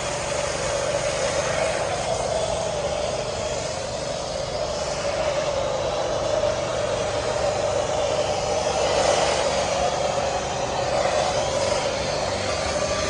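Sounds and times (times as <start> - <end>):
constant machine hum: 0.0 - 13.0
steady rushing noise: 0.0 - 13.0.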